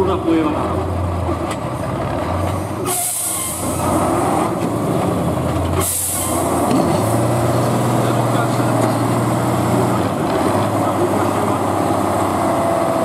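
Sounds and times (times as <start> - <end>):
diesel truck engine under load: 0.0 - 13.0.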